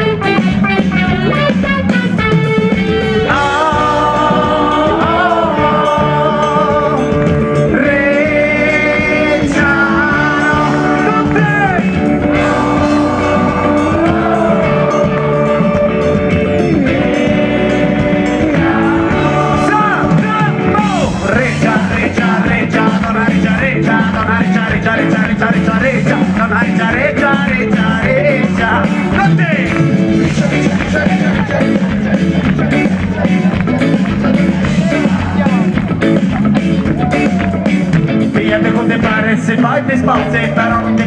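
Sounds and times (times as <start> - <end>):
rock band playing live: 0.0 - 41.0.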